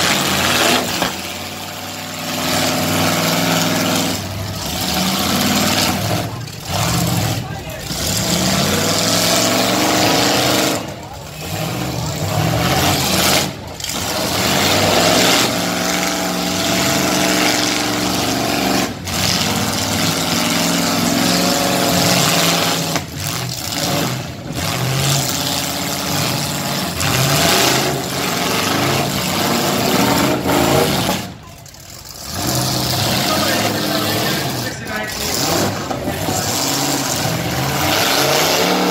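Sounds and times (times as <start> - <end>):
car and truck engines revving: 0.0 - 38.9.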